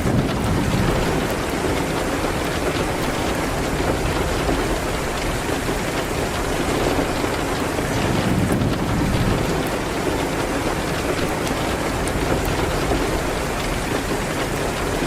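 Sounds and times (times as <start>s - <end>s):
rain hitting a window: 0.0s - 15.0s.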